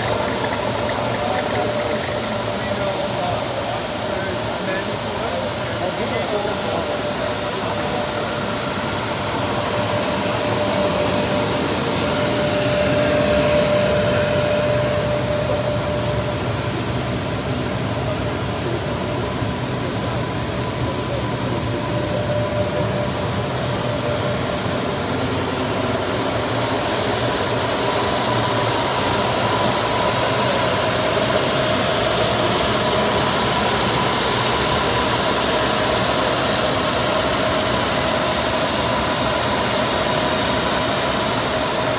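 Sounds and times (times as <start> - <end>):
machine humming and whining: 0.0 - 41.9.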